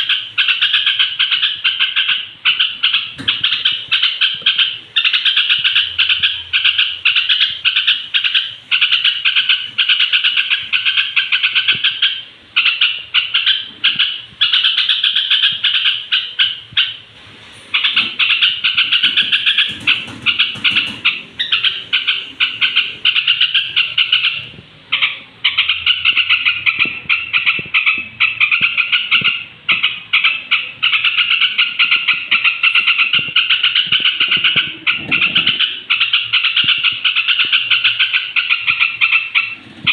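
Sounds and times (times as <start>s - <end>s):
bird singing bubbly chattering: 0.0s - 17.0s, 17.8s - 39.9s.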